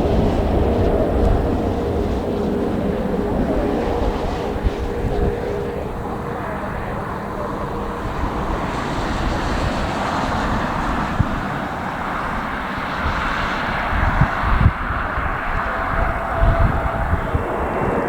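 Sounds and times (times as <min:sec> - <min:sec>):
aircraft engine rushing hiss: 0:00.0 - 0:18.0
wind buffeting microphone: 0:00.0 - 0:18.0.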